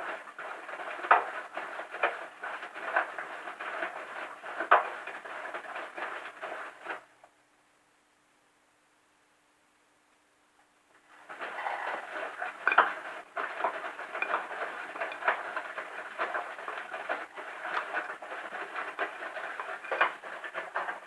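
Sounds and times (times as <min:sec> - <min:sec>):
machine clattering with clicks and knocks: 0:00.0 - 0:07.1, 0:11.1 - 0:21.0.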